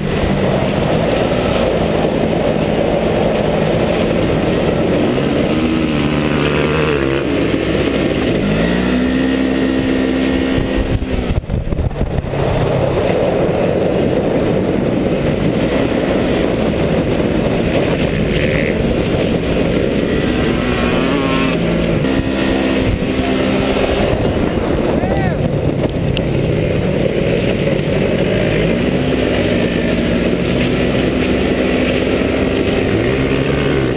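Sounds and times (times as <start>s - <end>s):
dirt bike engines: 0.0s - 33.9s
side-by-side vehicle engine: 0.0s - 33.9s.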